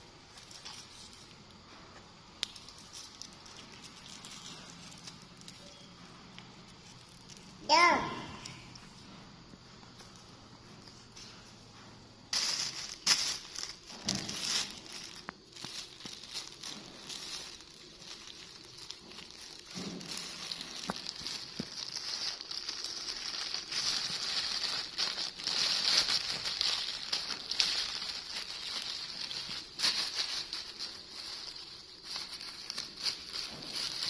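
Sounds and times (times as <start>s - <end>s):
plastic bag crinkling: 0.0s - 7.7s, 12.3s - 34.0s.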